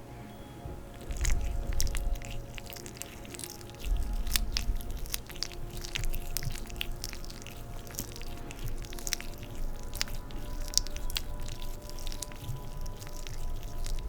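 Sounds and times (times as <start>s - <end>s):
soft low rubbing: 0.0s - 14.0s
wet sticky clicks of oiled skin: 0.9s - 14.0s.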